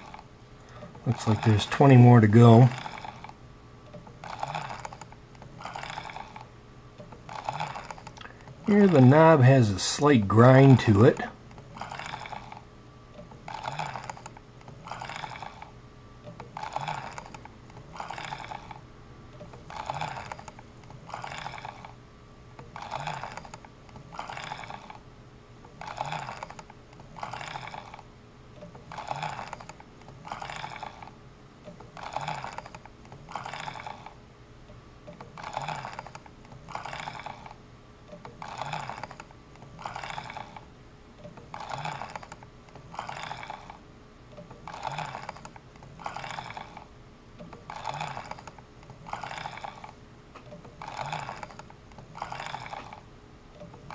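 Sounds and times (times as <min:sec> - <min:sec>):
rotary switch grinding scrape: 0:00.0 - 0:12.6, 0:13.4 - 0:15.7, 0:16.3 - 0:18.8, 0:19.4 - 0:22.0, 0:22.6 - 0:25.0, 0:25.8 - 0:31.2, 0:31.8 - 0:34.2, 0:35.1 - 0:37.6, 0:38.3 - 0:40.7, 0:41.4 - 0:43.8, 0:44.4 - 0:53.0.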